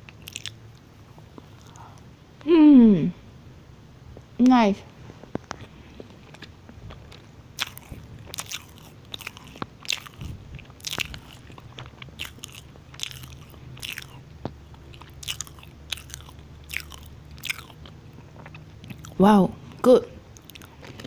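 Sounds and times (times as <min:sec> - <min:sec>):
mouth chewing muffin: 0:00.0 - 0:02.1, 0:05.2 - 0:21.0.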